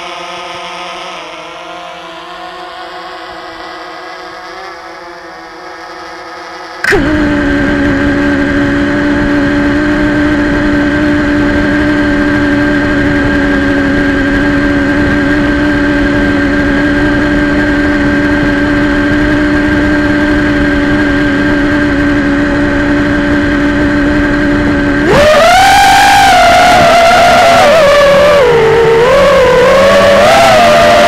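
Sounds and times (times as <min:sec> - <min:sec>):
quadcopter motors buzzing: 0:00.0 - 0:31.0.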